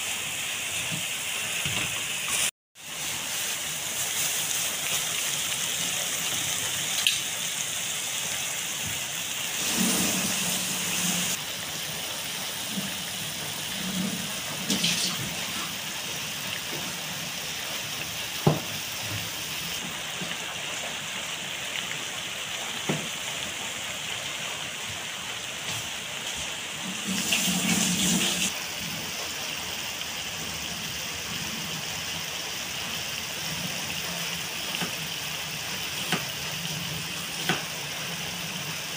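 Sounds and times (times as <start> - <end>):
squid simmering and sizzling: 0.3 - 38.9.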